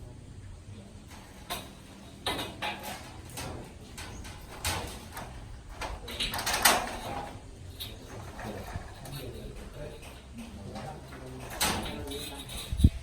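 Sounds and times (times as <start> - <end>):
knocks clanks and scrapes on metal: 0.8 - 13.0.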